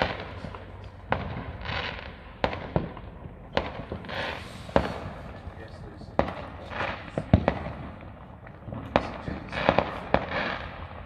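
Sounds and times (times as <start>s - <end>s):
fireworks bangs: 0.0s - 11.0s
fireworks crackle: 0.0s - 11.0s.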